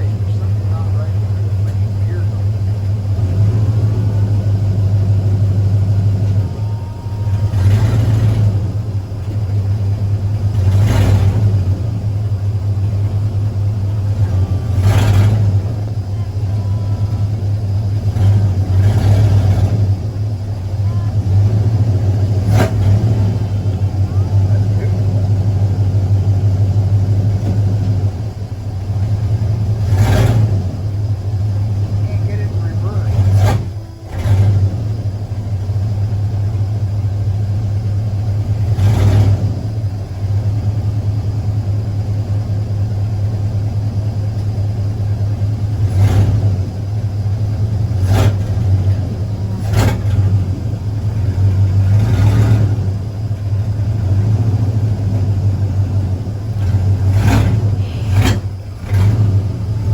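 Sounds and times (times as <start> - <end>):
pickup truck engine rumbling: 0.0 - 59.9.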